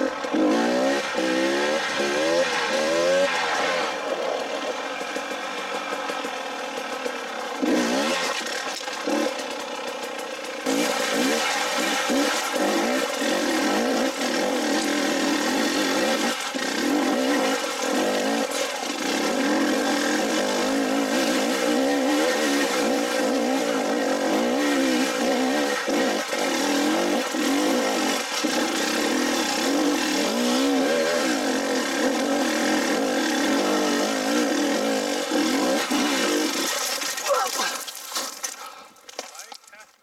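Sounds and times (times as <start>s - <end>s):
dirt bike engine revving: 0.0s - 37.8s.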